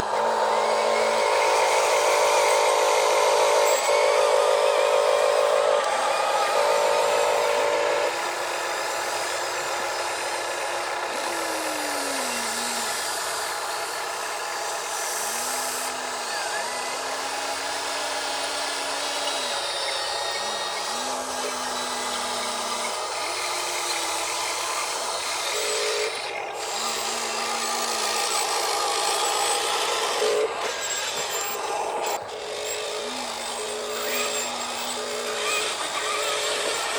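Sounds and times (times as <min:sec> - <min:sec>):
small electric motors whining: 0:00.0 - 0:36.9.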